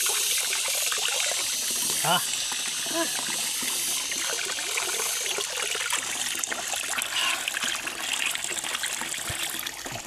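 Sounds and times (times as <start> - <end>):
water pouring from pipe: 0.0 - 10.0.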